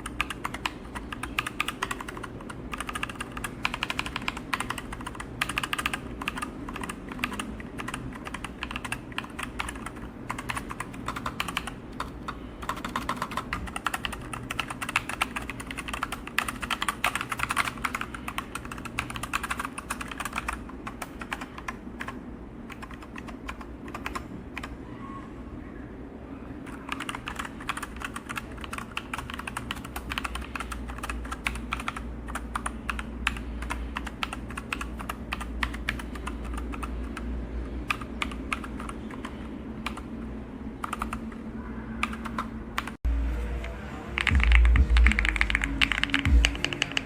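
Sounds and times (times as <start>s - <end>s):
mechanical keyboard typing: 0.0s - 24.7s, 26.6s - 37.2s, 37.8s - 40.2s, 40.8s - 41.3s, 42.0s - 43.0s, 44.2s - 47.0s.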